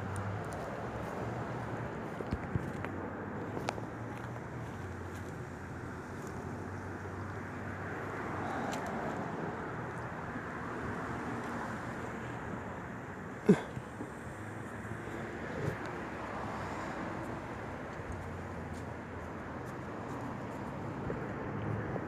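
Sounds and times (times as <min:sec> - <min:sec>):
steady wind: 0:00.0 - 0:22.0.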